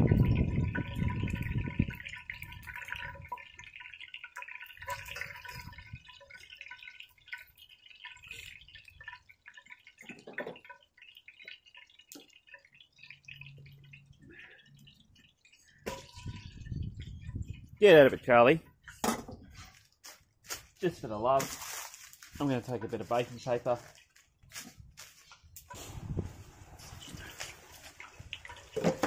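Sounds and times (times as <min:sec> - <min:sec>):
frying oil crackling and sizzling: 0:00.0 - 0:29.0.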